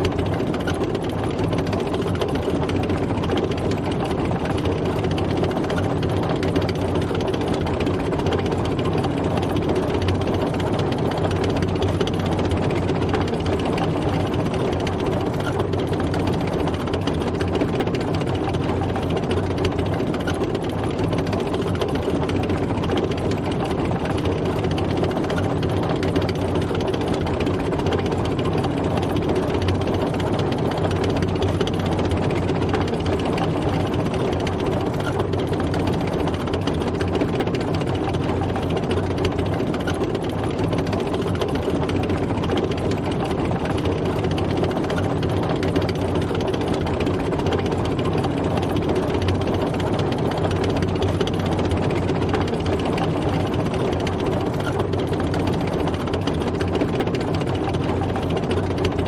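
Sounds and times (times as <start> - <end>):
tank engine running: 0.0 - 59.0.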